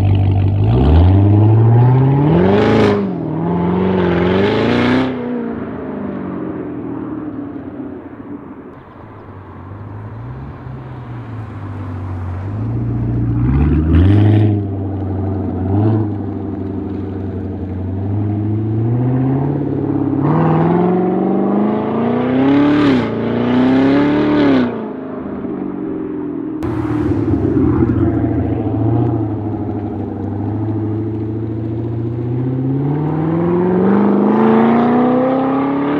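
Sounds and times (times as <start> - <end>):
car engine revving: 0.0 - 5.5, 8.8 - 25.4, 26.6 - 35.9.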